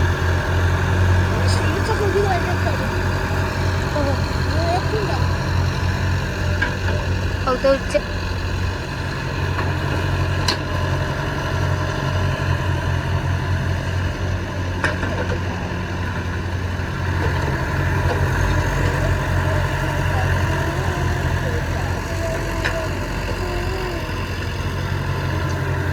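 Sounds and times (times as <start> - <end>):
heavy diesel engine droning: 0.0 - 25.9.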